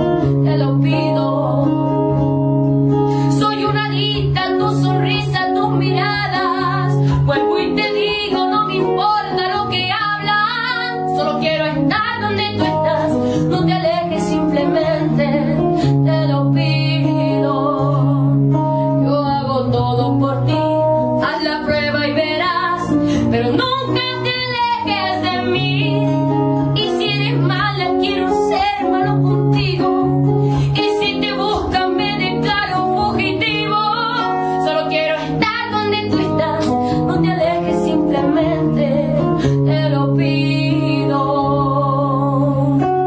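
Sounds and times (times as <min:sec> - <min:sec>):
acoustic guitar chords: 0:00.0 - 0:43.0
woman singing a ballad: 0:00.0 - 0:43.0.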